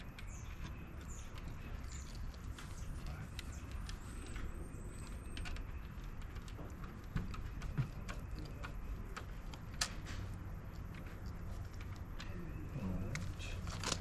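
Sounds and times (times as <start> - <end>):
light clicks and taps: 0.0 - 14.0.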